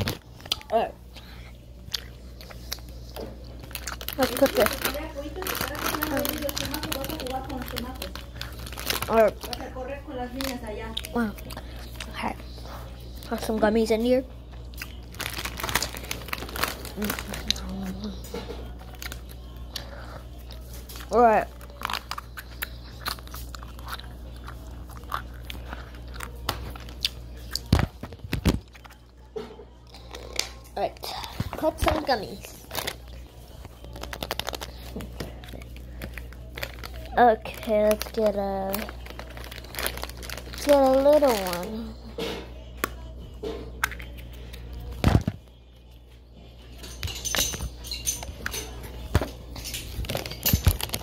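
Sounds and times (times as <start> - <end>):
candy packets crackling: 0.0 - 29.2, 29.9 - 42.1, 47.0 - 51.0.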